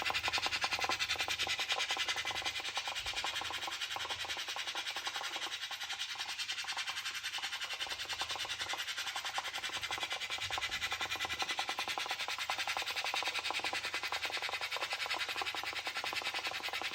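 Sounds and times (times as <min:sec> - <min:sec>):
rice cooker bubbling and hissing: 0:00.0 - 0:16.9.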